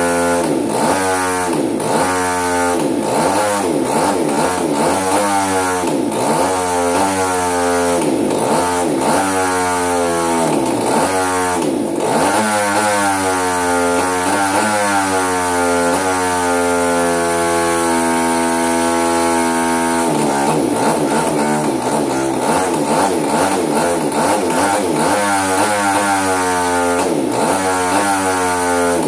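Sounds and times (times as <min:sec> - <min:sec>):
two-stroke engine misfiring: 0:00.0 - 0:29.0.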